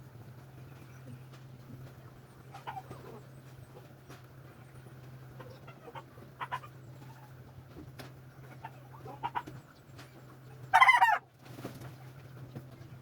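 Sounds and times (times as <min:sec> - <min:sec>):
chickens clucking: 0:00.0 - 0:13.0
steady low hum: 0:00.0 - 0:13.0.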